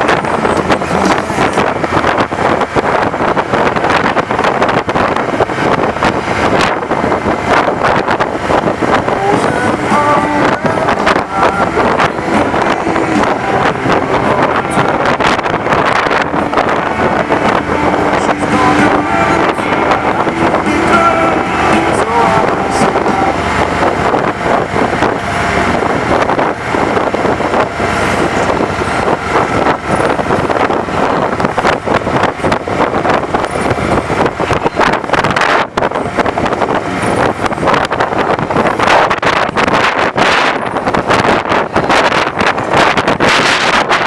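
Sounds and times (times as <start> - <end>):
wind roaring over microphone: 0.0 - 44.0.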